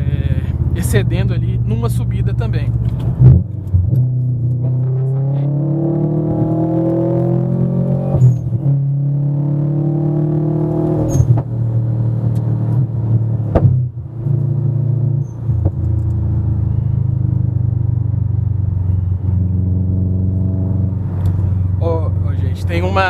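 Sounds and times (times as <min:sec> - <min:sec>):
car engine from inside cabin: 0:00.0 - 0:23.0.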